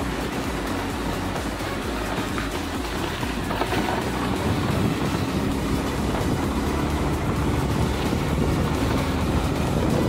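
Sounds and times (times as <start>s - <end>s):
road noise: 0.0s - 10.0s
vehicle engine: 0.0s - 10.0s.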